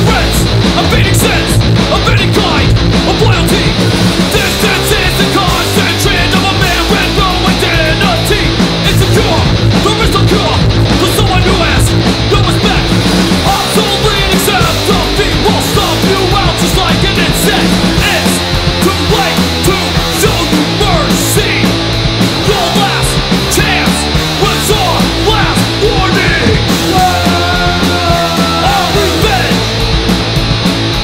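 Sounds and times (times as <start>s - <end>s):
hardcore punk music: 0.0s - 31.0s.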